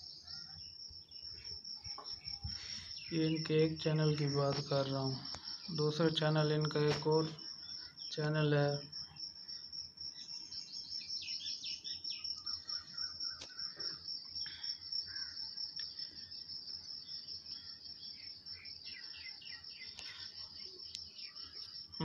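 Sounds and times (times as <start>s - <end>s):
high-pitched insect trill: 0.0s - 22.0s
small birds chirping: 0.0s - 22.0s.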